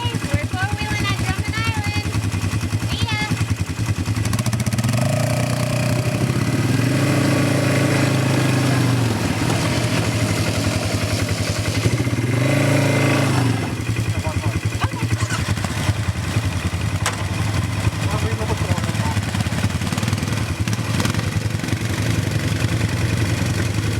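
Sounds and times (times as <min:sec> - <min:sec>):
atv engine running: 0:00.0 - 0:23.9.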